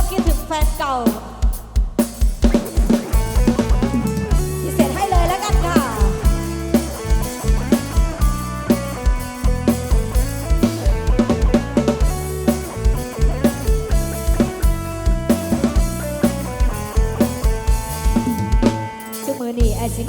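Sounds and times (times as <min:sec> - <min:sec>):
drum kit steady kick beat: 0:00.0 - 0:20.0
bass guitar: 0:02.4 - 0:20.0
electric guitar melody: 0:02.8 - 0:20.0.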